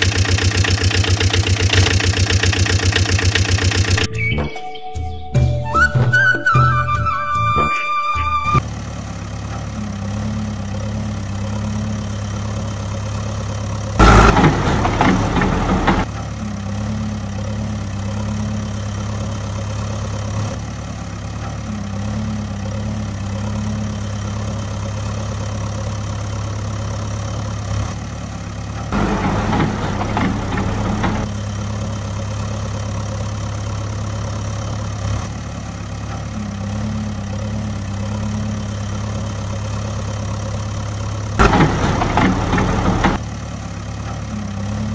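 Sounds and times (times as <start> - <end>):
rough engine bursts: 0.0 - 4.1, 8.6 - 44.9
vehicle engine idling: 0.0 - 4.1, 8.6 - 44.9.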